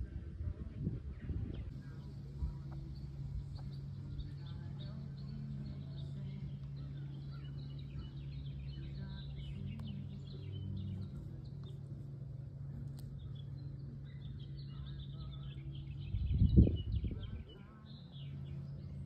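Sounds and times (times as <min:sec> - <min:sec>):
steady low hum: 0:00.0 - 0:19.0
small birds chirping: 0:00.6 - 0:19.0.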